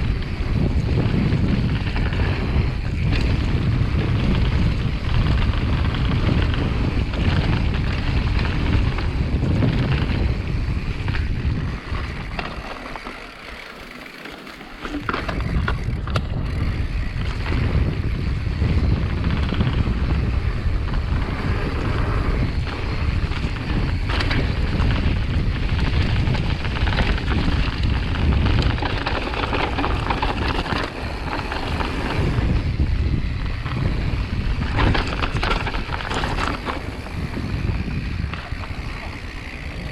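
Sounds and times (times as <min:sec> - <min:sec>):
wind buffeting microphone: 0:00.0 - 0:14.2, 0:14.8 - 0:39.9.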